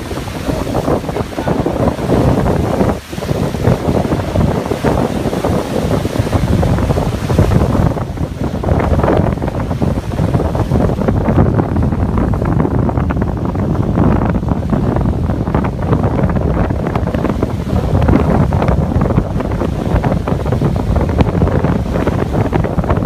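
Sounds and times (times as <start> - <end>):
waves washing against rocky shore: 0.0 - 23.0
wind buffeting microphone: 0.0 - 23.0.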